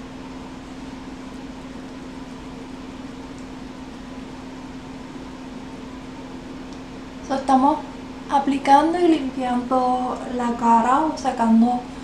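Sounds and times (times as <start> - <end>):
steady hum with hiss: 0.0 - 12.0.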